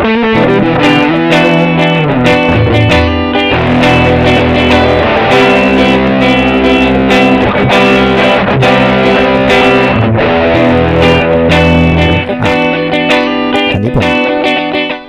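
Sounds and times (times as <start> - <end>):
electric guitar loop: 0.0 - 15.0.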